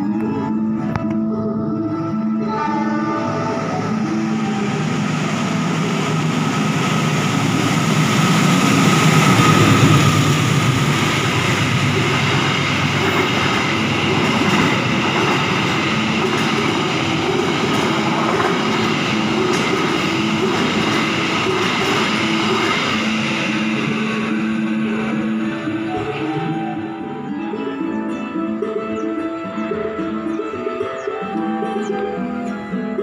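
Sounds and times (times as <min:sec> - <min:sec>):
train clattering: 0:03.0 - 0:33.0
train wheels rumbling on rails: 0:03.0 - 0:33.0.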